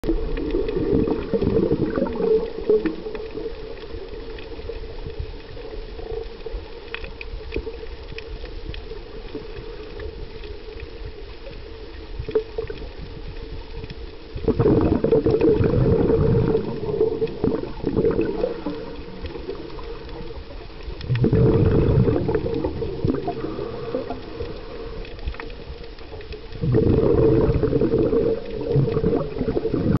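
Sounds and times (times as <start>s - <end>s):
bubbling exhaled air underwater: 0.0s - 30.0s
low underwater rumble: 0.0s - 30.0s.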